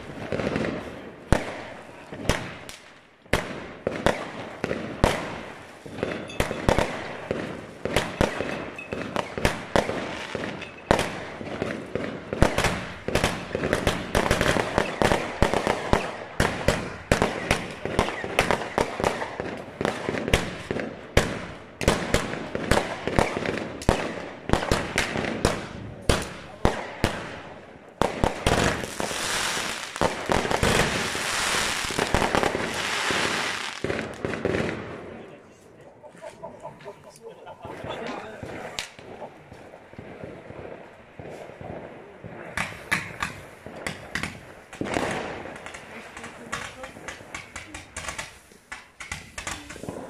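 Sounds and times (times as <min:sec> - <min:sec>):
firework bangs: 0:00.0 - 0:35.3, 0:37.4 - 0:50.0.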